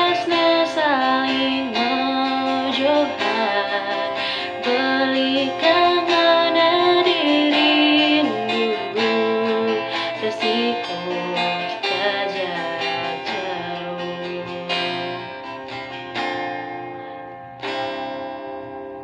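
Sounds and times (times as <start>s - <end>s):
woman singing: 0.0s - 16.0s
plucked guitar: 0.0s - 19.0s.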